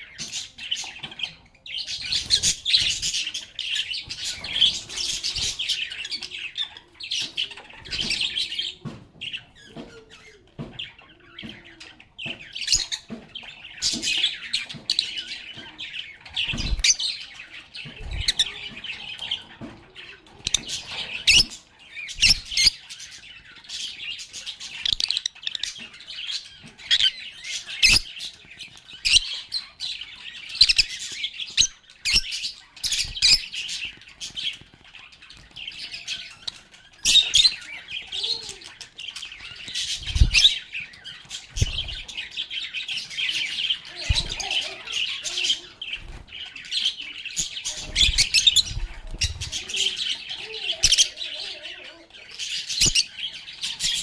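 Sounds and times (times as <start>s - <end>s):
lovebirds chattering and chirping: 0.0s - 54.0s.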